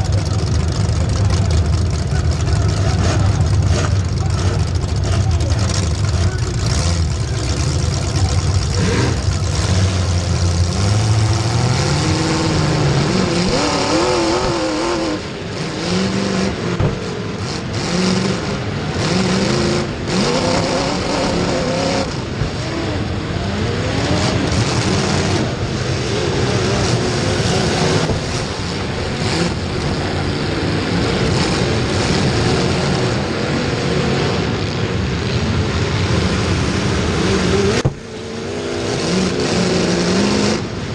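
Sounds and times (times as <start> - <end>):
race car engine accelerating: 0.0 - 40.9
track noise: 0.0 - 40.9.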